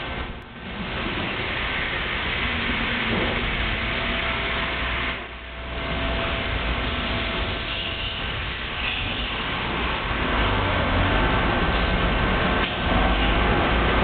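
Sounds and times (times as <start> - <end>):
factory machinery running: 0.0 - 14.0.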